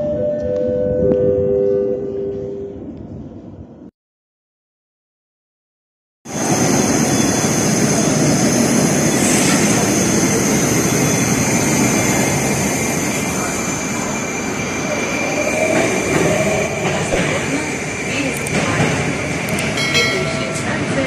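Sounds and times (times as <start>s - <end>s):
train and station noise: 0.0s - 3.9s, 6.3s - 21.0s.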